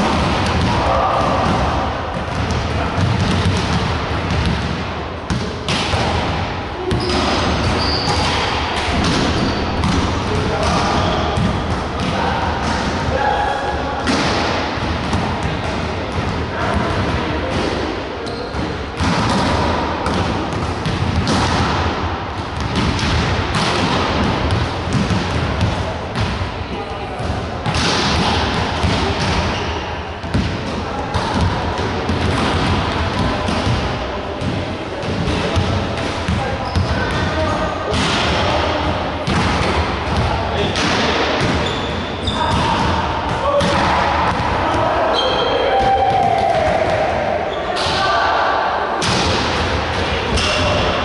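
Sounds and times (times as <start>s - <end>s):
gym hall noise: 0.0s - 51.0s.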